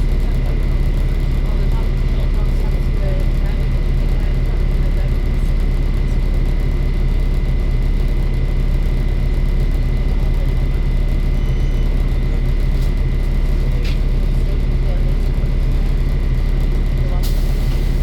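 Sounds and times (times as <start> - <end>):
bus diesel engine droning: 0.0 - 18.0.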